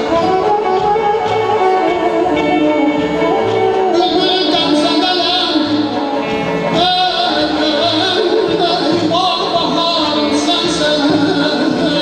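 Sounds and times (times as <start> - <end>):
frame drum beats: 0.0 - 12.0.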